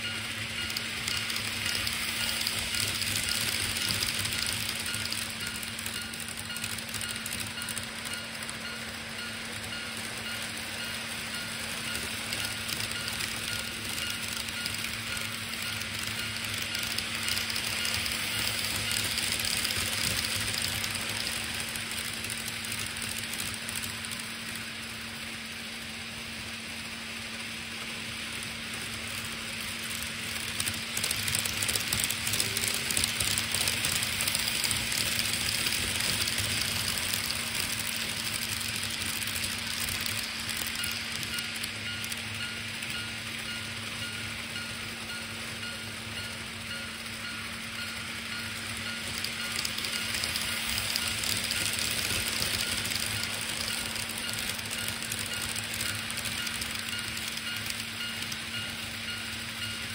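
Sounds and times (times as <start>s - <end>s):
model trains whirring and rattling: 0.0s - 59.9s.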